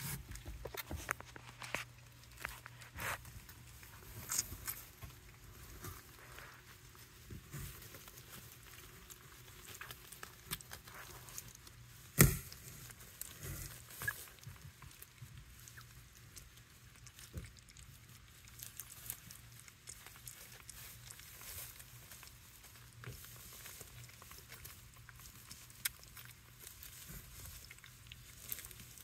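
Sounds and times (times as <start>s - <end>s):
puppy chewing and crunching kibble: 0.0s - 29.0s.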